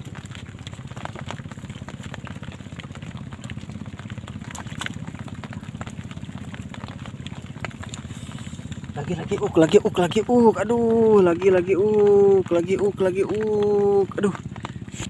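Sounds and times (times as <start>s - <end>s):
motor droning with pulse: 0.0s - 15.0s.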